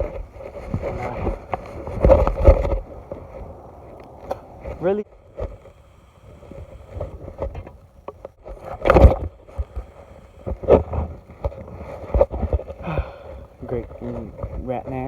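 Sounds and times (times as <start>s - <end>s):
scattered knocks and rustles: 0.0s - 15.0s.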